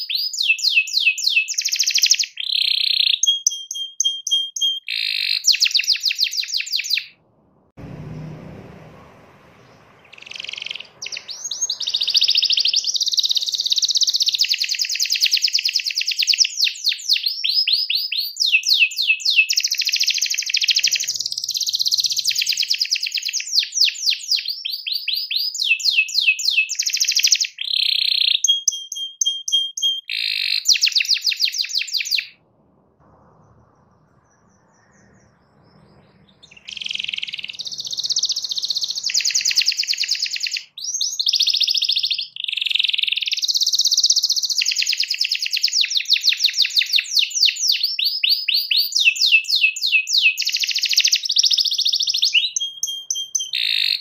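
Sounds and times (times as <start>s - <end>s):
canary singing trills: 0.0s - 7.2s, 9.4s - 32.4s, 33.0s - 54.0s.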